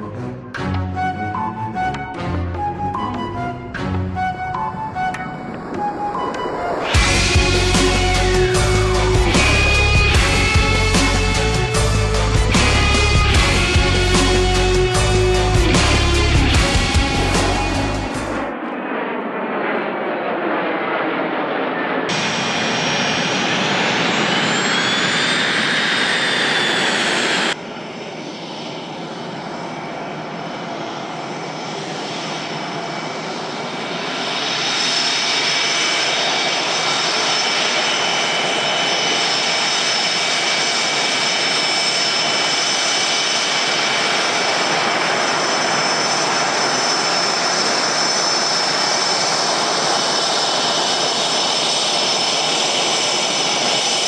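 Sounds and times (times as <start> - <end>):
jet engine whining: 0.0 - 54.0.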